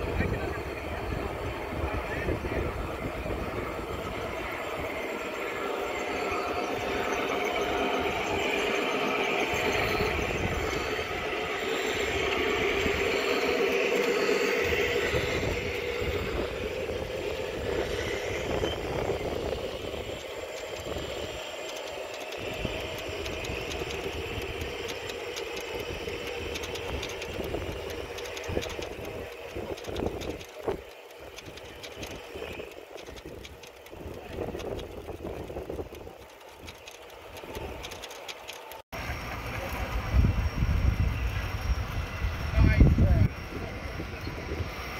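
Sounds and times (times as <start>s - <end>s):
model train wheels clicking on track: 0.0s - 43.2s
diesel locomotive engine: 0.0s - 44.9s.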